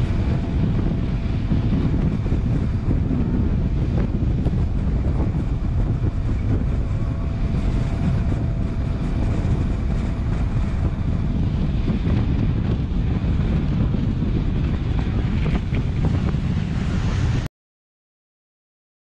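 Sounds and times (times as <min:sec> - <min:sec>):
faint steady whine: 0:00.0 - 0:17.4
wind buffeting microphone: 0:00.0 - 0:17.5.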